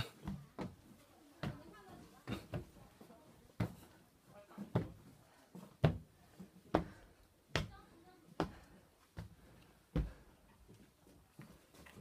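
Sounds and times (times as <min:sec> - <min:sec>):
footsteps on stairs: 0:00.0 - 0:12.0.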